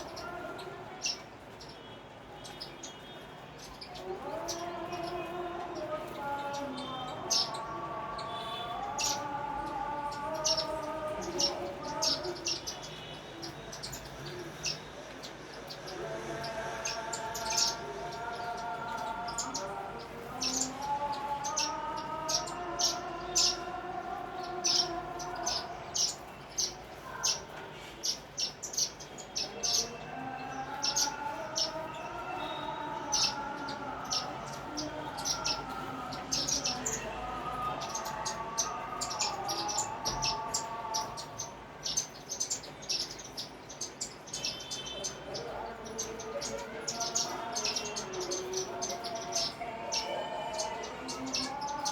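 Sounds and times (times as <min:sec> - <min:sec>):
sparrows chirping: 0:00.0 - 0:51.9.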